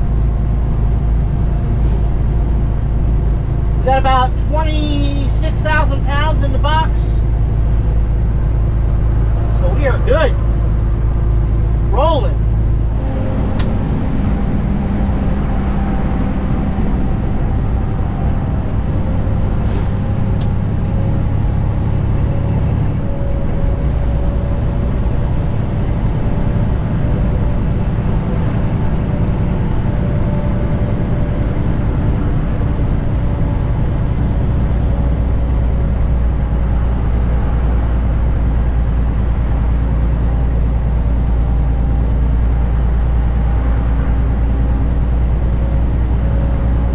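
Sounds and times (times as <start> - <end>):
diesel truck engine droning: 0.0 - 46.9.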